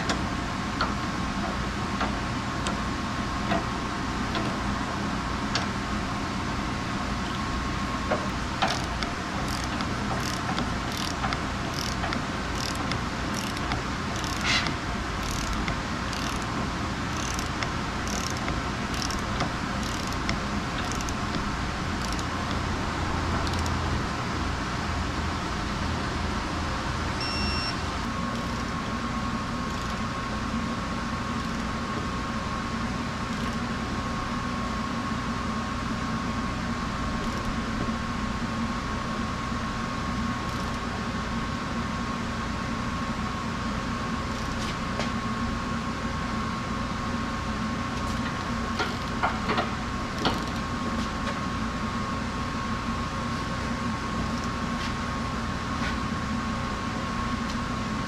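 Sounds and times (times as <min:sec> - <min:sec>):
mechanical hum with whine: 0:00.0 - 0:58.0.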